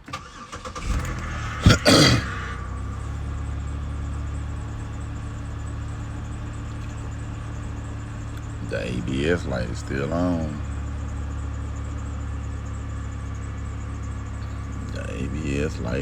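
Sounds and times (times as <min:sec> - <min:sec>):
car engine cranking and starting: 0:00.0 - 0:16.0
car engine idling: 0:00.0 - 0:16.0.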